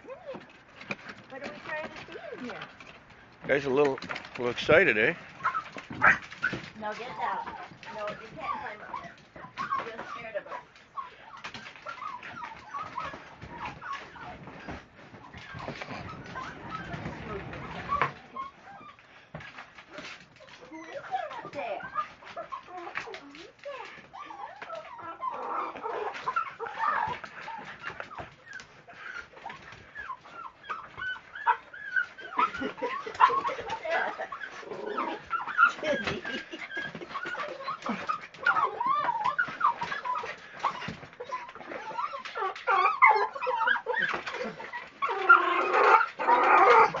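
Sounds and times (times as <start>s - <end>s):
small dogs whining and yelping: 0.0s - 2.8s, 5.3s - 47.0s.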